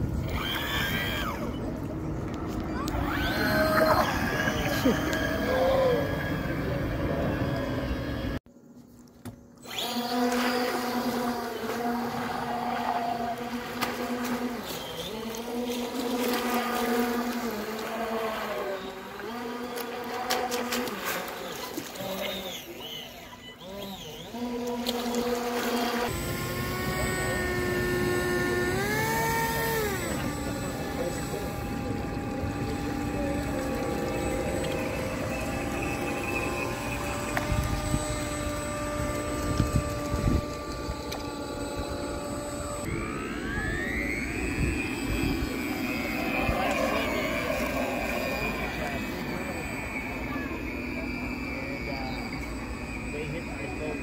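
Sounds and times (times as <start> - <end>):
small outboard motor whining: 0.0 - 8.4, 9.2 - 54.0.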